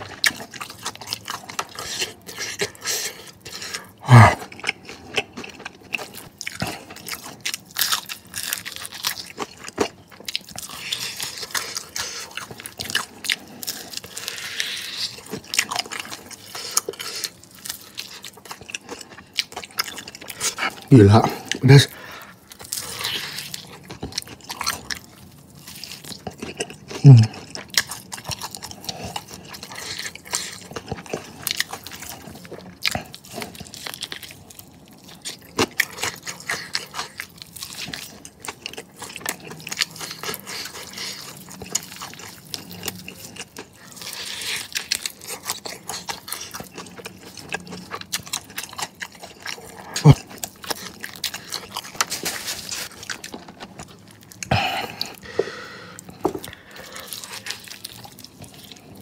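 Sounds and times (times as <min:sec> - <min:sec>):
chewing crispy chicken wings: 0:00.0 - 0:59.0.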